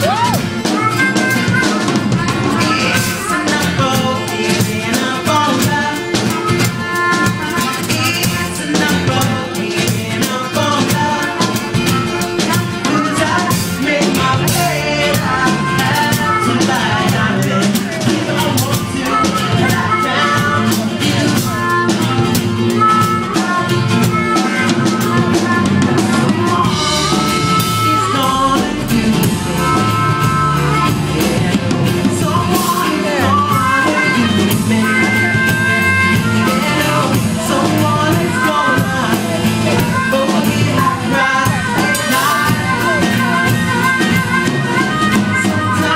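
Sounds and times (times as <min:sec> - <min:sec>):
drum kit steady beat: 0:00.0 - 0:45.9
live band music: 0:00.0 - 0:45.9
person singing: 0:00.0 - 0:45.9.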